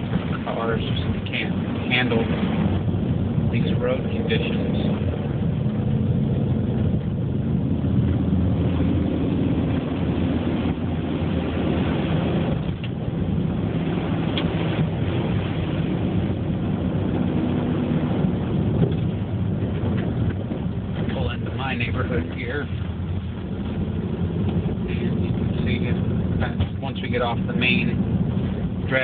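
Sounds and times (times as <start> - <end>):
car engine cruising: 0.0 - 29.0
tyre and road noise: 0.0 - 29.0.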